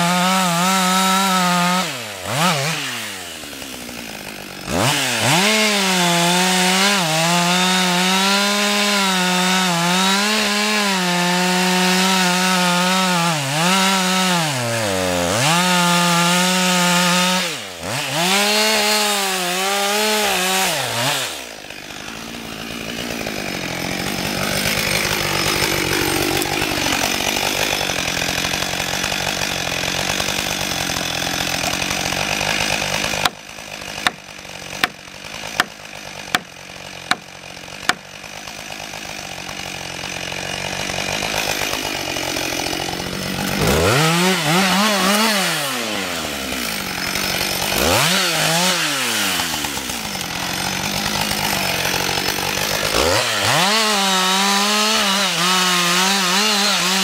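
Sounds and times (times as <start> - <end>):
chainsaw cutting wood: 0.0 - 57.0
chainsaw idling: 0.0 - 57.0.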